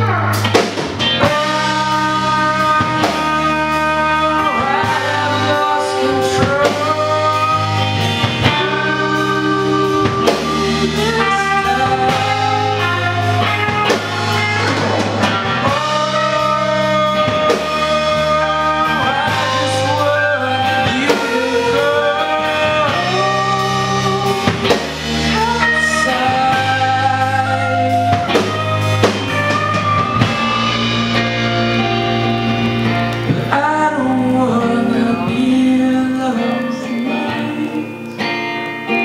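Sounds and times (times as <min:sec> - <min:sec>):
rock band playing: 0:00.0 - 0:39.0
man singing: 0:01.2 - 0:39.0.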